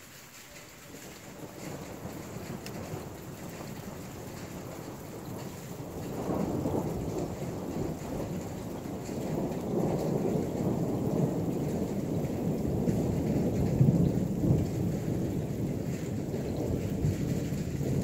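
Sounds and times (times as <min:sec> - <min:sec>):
rolling thunder rumbling: 0:00.5 - 0:18.0.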